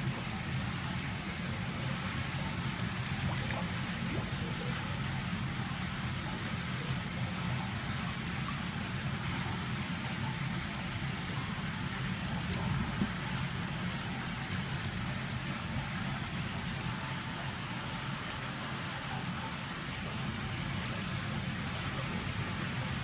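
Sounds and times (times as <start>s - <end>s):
water bubbling in a tank: 0.0s - 23.0s.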